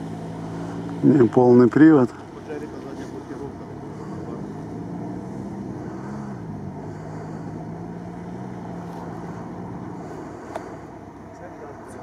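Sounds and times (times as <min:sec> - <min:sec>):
car engine running hard: 0:00.0 - 0:12.0.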